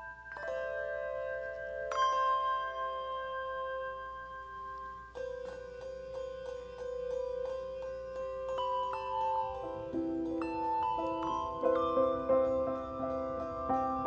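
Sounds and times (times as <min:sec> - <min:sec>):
repeated struck notes: 0:00.0 - 0:14.0.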